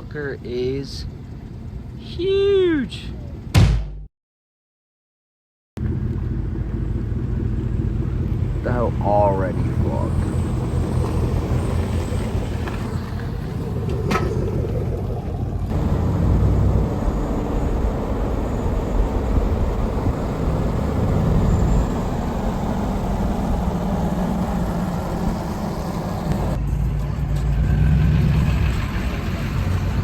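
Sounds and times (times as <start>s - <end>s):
truck engine rumbling: 0.0s - 3.6s, 5.8s - 30.0s.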